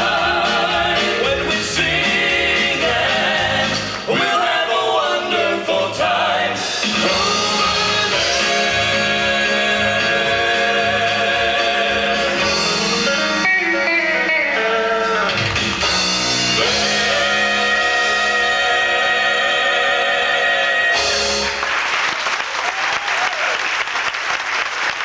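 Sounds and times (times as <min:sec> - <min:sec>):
gospel group singing: 0:00.0 - 0:13.4, 0:14.5 - 0:21.7
band accompaniment: 0:00.0 - 0:21.9.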